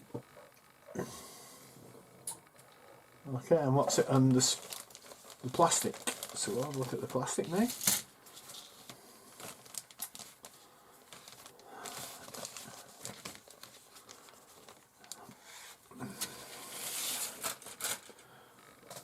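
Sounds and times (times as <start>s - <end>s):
plastic bags rustling: 3.3s - 19.0s.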